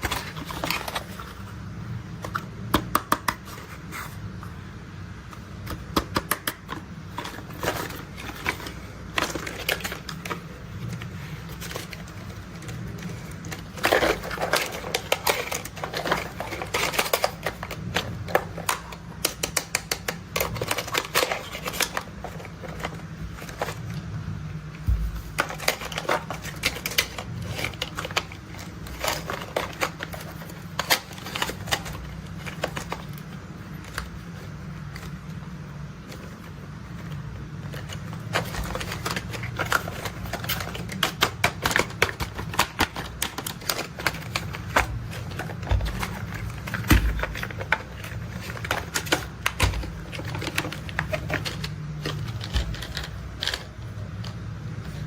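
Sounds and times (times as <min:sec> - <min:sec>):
steady low hum: 0:00.0 - 0:55.0
plastic toy parts clicking and rattling: 0:05.6 - 0:24.0, 0:24.8 - 0:55.0.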